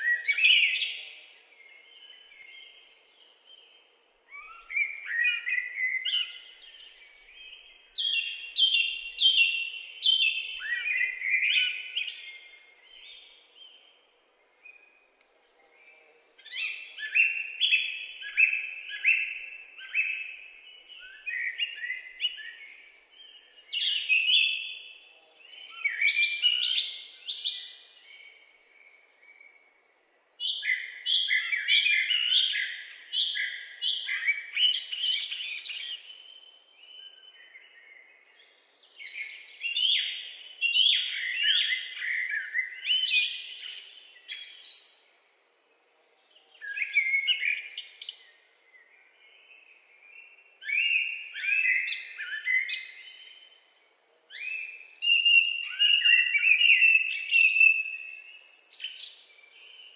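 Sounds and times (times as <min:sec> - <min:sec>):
songbird chirping: 0:00.0 - 0:59.9.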